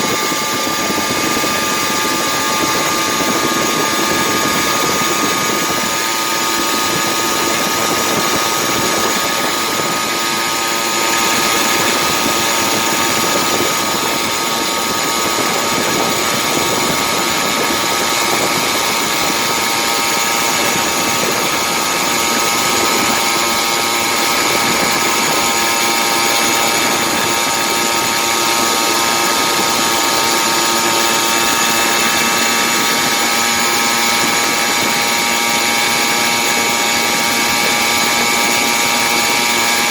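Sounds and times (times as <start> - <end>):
two-stroke engine running steadily: 0.0 - 39.9.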